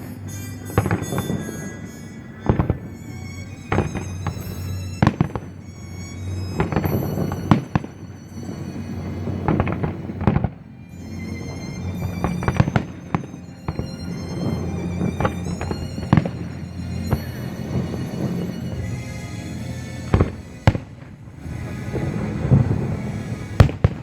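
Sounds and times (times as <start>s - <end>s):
fireworks bangs: 0.0s - 24.0s
music playing: 0.0s - 24.0s.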